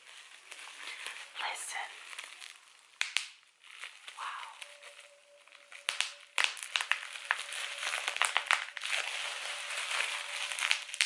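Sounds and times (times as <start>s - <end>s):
bubble wrap crackling and popping: 0.0s - 11.0s.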